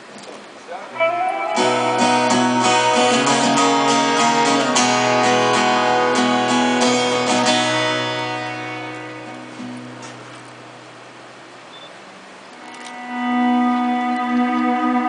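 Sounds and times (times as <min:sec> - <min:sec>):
strummed guitar chords: 0:01.0 - 0:11.4, 0:12.9 - 0:15.0.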